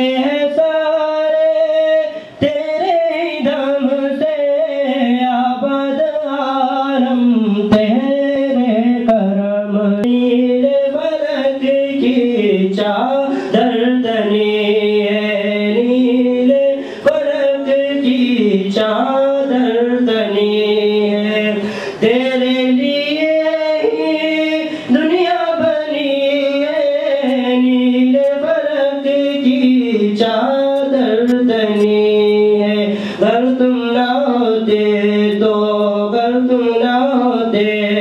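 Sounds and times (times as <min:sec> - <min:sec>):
man singing devotional song: 0:00.0 - 0:38.0.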